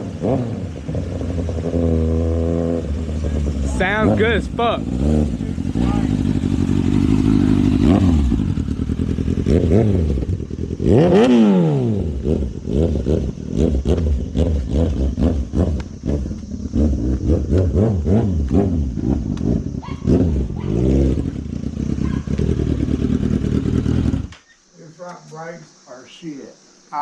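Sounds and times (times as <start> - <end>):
motorcycle engine revving: 0.0 - 24.5.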